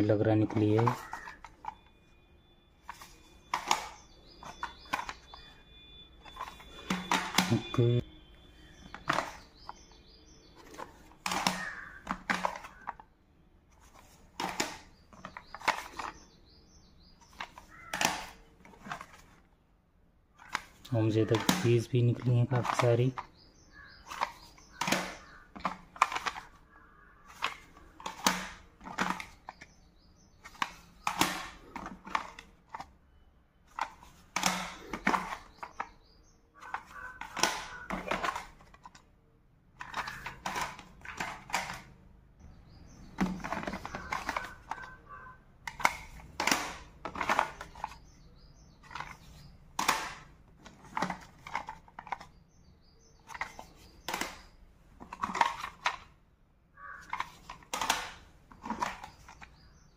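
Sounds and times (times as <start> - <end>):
plastic cassette cases clacking: 0.1 - 1.9, 2.8 - 5.6, 6.2 - 8.0, 8.7 - 9.9, 10.6 - 13.1, 13.8 - 16.4, 17.2 - 19.4, 20.4 - 32.9, 33.7 - 36.0, 36.6 - 39.1, 39.7 - 48.2, 48.8 - 52.4, 53.2 - 56.2, 56.8 - 59.9.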